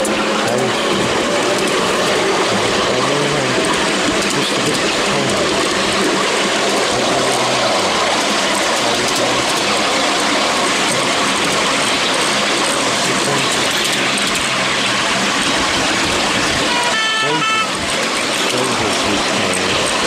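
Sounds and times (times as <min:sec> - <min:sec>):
low hum: 0:00.0 - 0:16.6
train wheels rattling on rail: 0:00.0 - 0:20.0.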